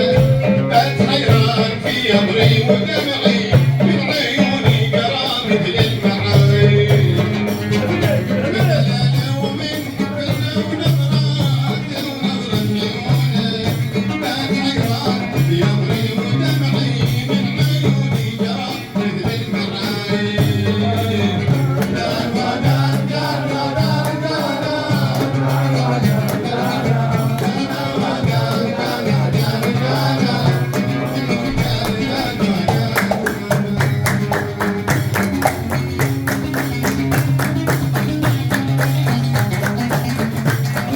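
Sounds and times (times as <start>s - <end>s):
man singing with instruments: 0.0s - 40.9s
percussion beat: 0.0s - 40.9s.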